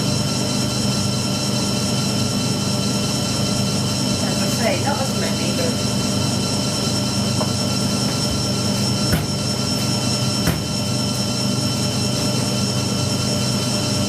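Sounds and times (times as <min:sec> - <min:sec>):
washing machine spin cycle hum: 0:00.0 - 0:14.0.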